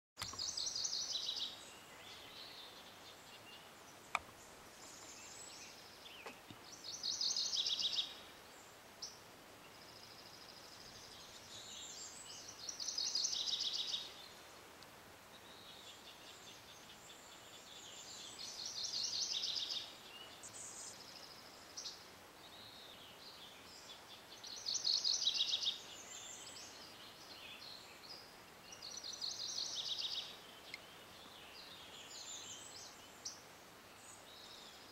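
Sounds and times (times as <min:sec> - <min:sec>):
soft steady hiss: 0:00.2 - 0:34.9.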